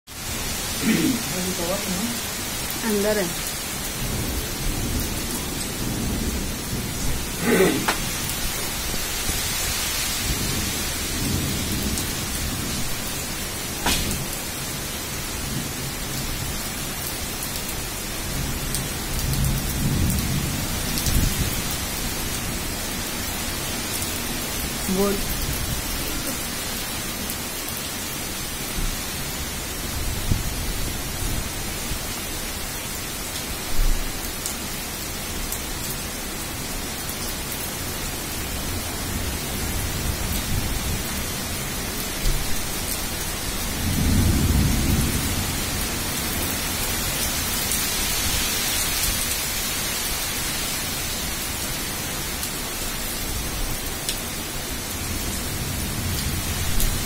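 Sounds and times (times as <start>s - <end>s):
heavy rain pouring: 0.1s - 57.0s.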